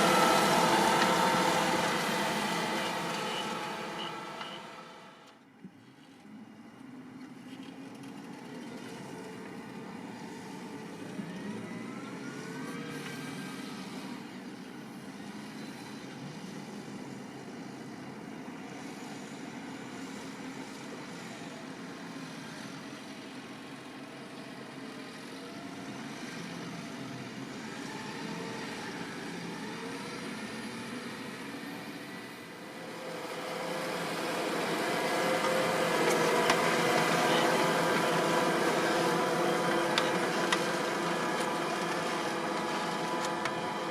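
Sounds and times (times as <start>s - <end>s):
tractor diesel engine working: 0.0s - 5.4s, 7.4s - 43.9s.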